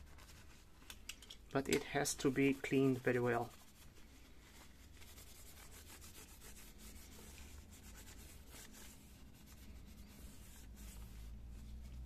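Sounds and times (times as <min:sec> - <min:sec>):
paper towel rubbing: 0:00.0 - 0:00.8, 0:01.6 - 0:12.0.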